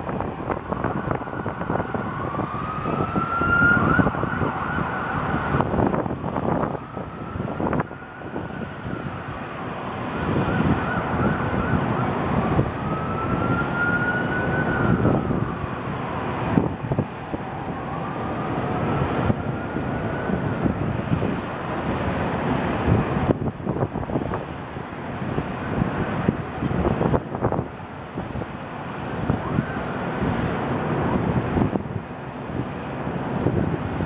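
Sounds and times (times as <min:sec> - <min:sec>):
emergency sirens wailing: 0:00.0 - 0:34.0
wind buffeting microphone: 0:00.0 - 0:34.0.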